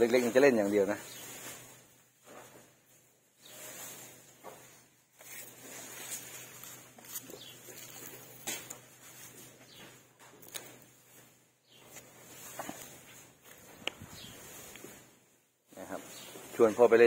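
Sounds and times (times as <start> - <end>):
shuffling on sandy ground: 0.0 - 17.0.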